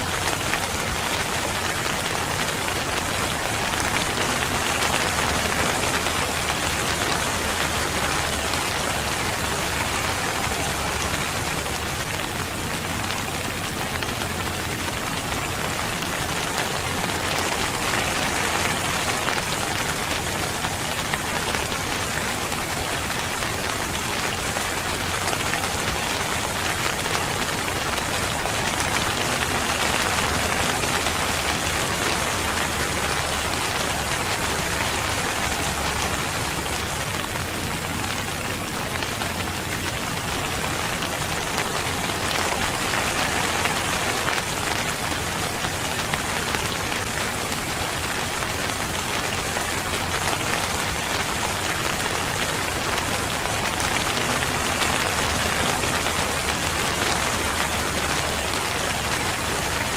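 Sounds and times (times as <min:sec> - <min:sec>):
rain pattering on surfaces: 0:00.0 - 0:59.9.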